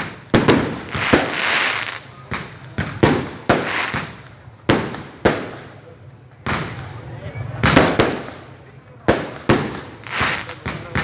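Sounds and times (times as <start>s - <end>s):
fireworks crackling hiss: 0.0s - 7.0s, 7.6s - 11.0s
fireworks banging: 0.0s - 11.0s.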